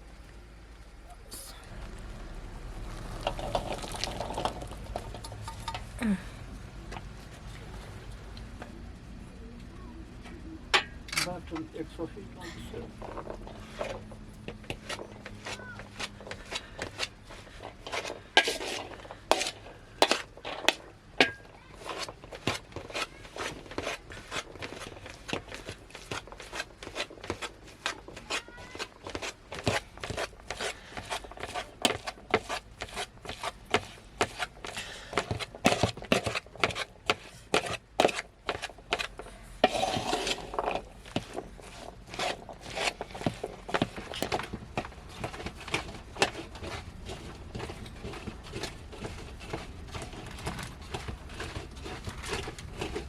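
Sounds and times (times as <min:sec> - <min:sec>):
scraping or rubbing: 0:02.8 - 0:05.9, 0:12.7 - 0:53.0.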